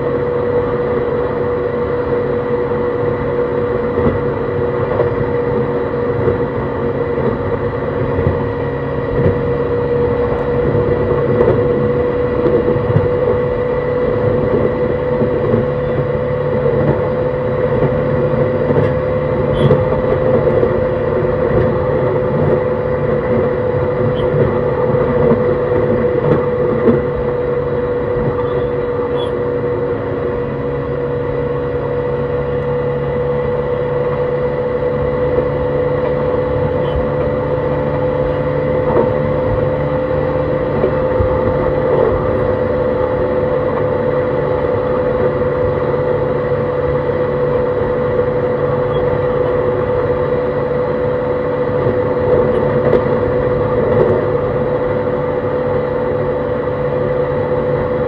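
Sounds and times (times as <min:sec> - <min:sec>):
train motor whine: 0:00.0 - 0:58.0
wheels rumbling on rail: 0:00.0 - 0:58.0.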